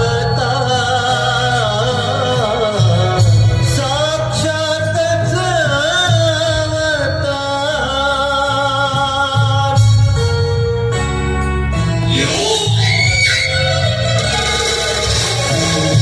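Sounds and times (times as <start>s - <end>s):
drums: 0.0s - 16.0s.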